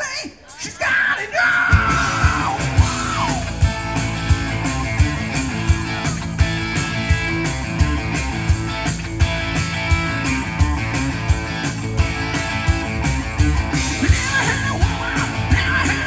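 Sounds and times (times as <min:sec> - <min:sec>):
steady drum beat: 0:01.6 - 0:16.0
electric guitar: 0:01.7 - 0:16.0.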